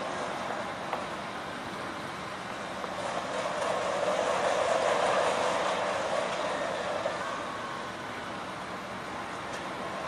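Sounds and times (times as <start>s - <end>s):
fairground ride rushing noise: 0.0s - 10.0s.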